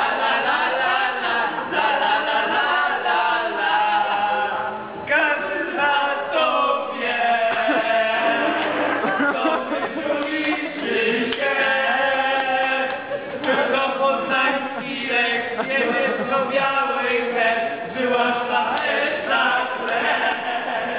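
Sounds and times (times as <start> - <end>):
group singing a chant: 0.0 - 20.9.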